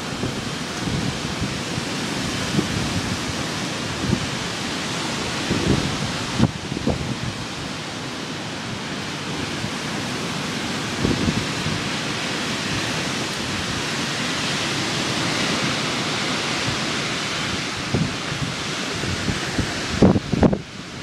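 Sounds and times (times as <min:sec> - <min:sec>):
wind gust buffeting microphone: 0:00.0 - 0:07.8, 0:10.8 - 0:14.3, 0:15.2 - 0:21.0
hurricane wind and rain: 0:00.0 - 0:21.0.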